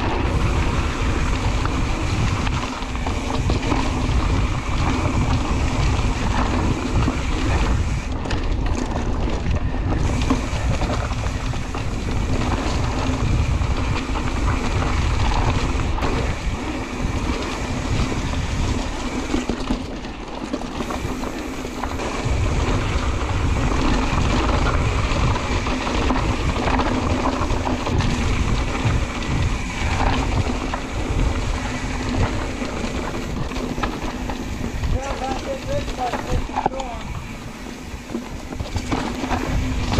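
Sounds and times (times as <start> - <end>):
bike tyres rumbling on dirt trail: 0.0 - 39.9
wind buffeting microphone: 0.0 - 39.9.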